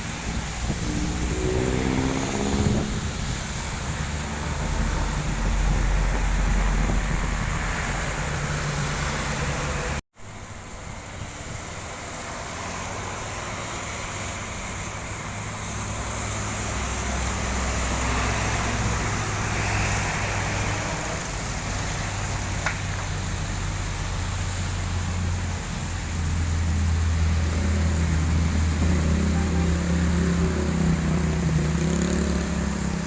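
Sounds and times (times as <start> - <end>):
heavy truck engine: 0.0 - 33.0
traffic hiss on wet road: 0.0 - 33.0.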